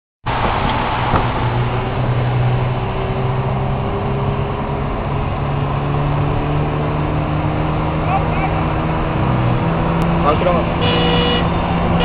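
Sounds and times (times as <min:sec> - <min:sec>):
road and wind noise: 0:00.2 - 0:12.0
car engine pulling under load: 0:00.3 - 0:10.8.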